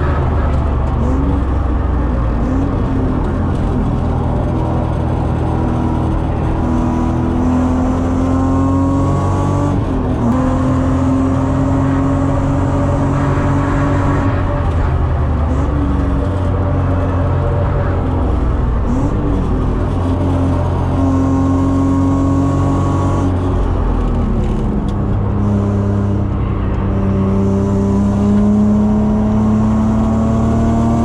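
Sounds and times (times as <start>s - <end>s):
car engine revving from inside: 0.0s - 31.0s
road and wind noise: 0.0s - 31.0s.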